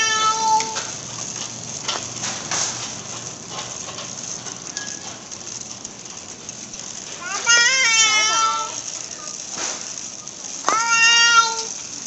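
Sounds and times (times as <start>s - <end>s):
shopping cart rattling: 0.0s - 12.0s.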